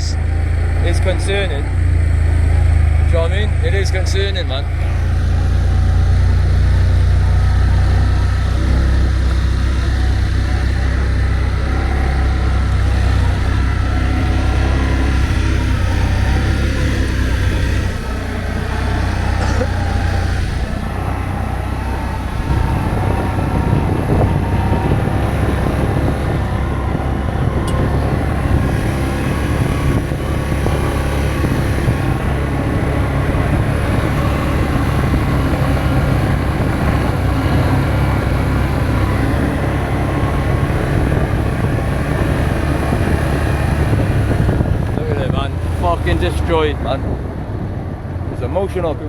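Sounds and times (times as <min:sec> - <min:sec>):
vehicle engine and road rumble: 0:00.0 - 0:49.0.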